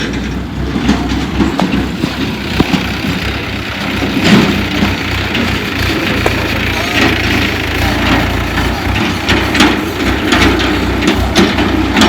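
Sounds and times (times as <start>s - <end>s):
diesel machinery rumbling: 0.0s - 12.0s.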